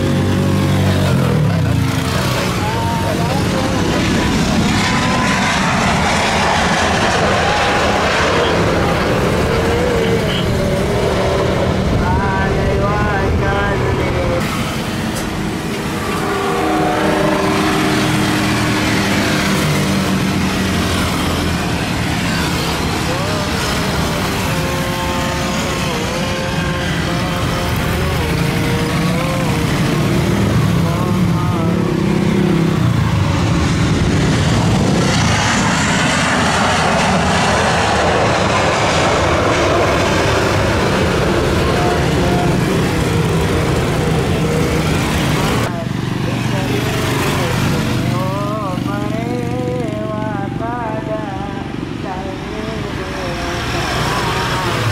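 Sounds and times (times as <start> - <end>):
jet airliner passing low: 0.0 - 54.9.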